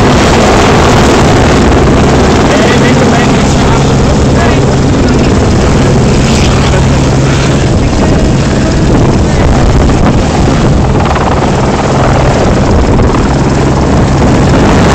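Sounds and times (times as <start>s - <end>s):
helicopter rotor and engine: 0.0s - 14.9s
wind buffeting microphone: 0.0s - 14.9s.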